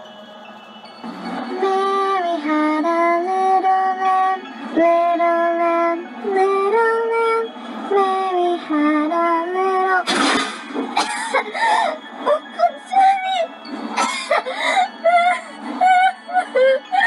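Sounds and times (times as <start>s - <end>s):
quiet music: 0.0s - 17.0s.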